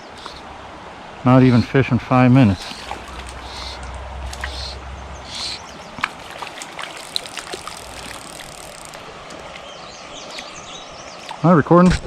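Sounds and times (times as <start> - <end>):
creek trickling over rocks: 0.0 - 11.8
light water splashes: 0.0 - 12.0.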